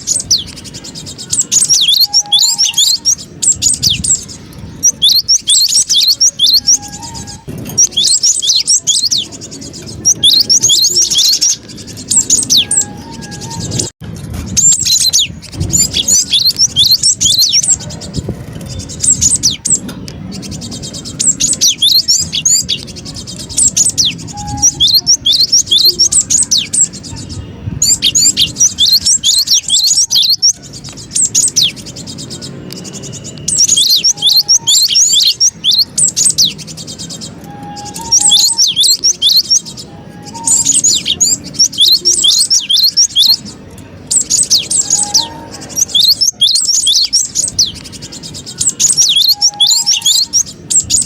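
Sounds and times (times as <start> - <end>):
bird chirping sharply: 0.0 - 13.9, 14.5 - 51.0.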